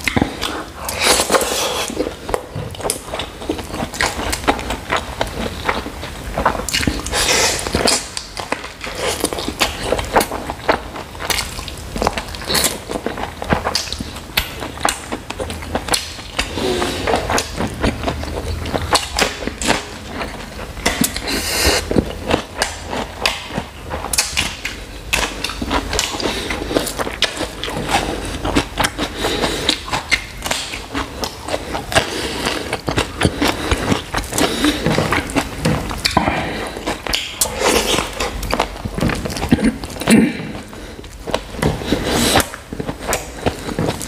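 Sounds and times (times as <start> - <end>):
close chewing and mouth smacks: 0.0 - 44.0.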